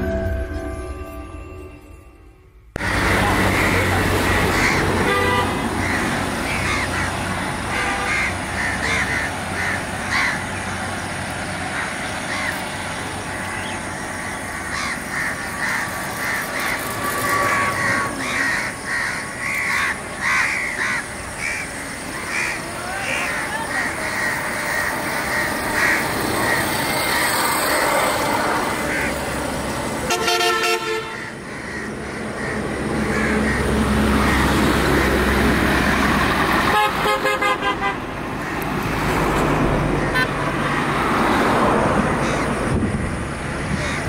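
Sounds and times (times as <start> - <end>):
steady background noise: 2.7 - 44.0
birds calling: 2.8 - 37.1, 38.2 - 41.1, 42.1 - 44.0.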